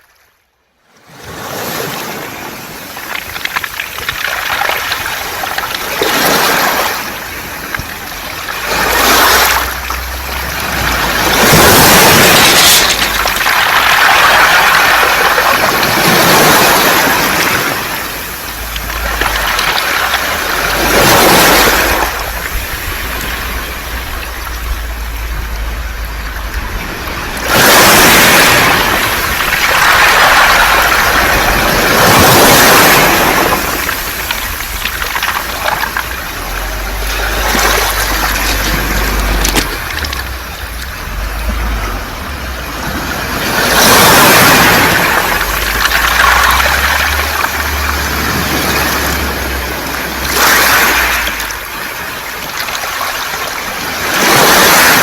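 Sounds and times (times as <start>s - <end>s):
waves over beach pebbles: 1.0s - 55.0s.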